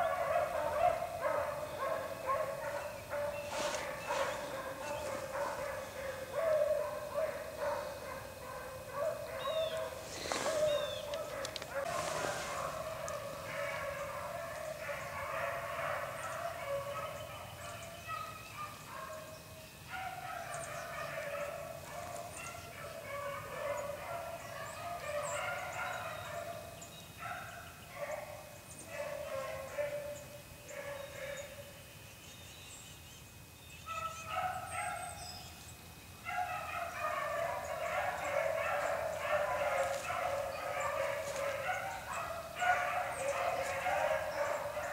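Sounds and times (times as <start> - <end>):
pack of dogs baying: 0.0 - 19.3, 20.0 - 31.5, 36.3 - 44.9.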